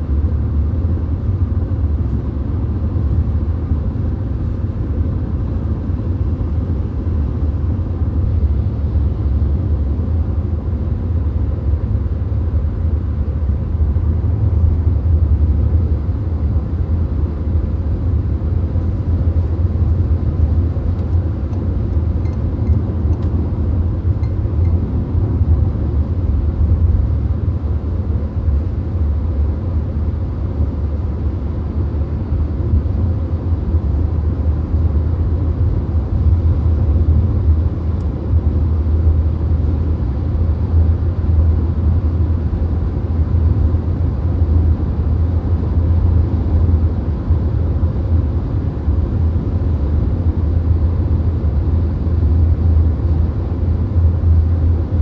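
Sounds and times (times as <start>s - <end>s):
car interior road noise: 0.0s - 48.2s.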